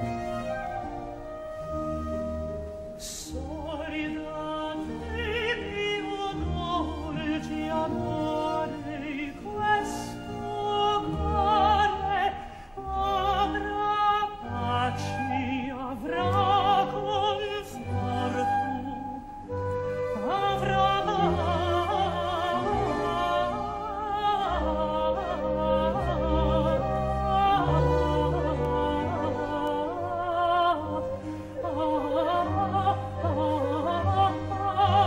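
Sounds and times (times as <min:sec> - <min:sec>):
orchestral accompaniment: 0:00.0 - 0:35.0
operatic singing voice: 0:03.1 - 0:35.0.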